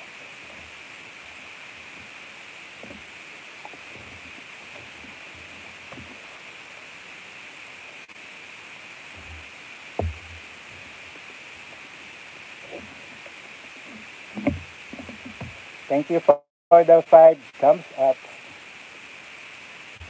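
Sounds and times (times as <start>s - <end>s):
microphone hiss: 0.0s - 20.0s.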